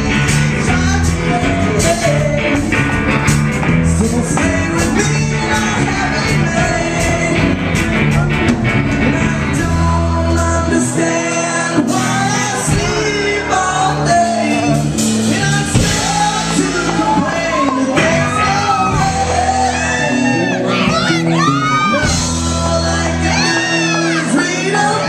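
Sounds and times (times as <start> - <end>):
lead singer singing: 0.0 - 25.0
rock band playing: 0.0 - 25.0.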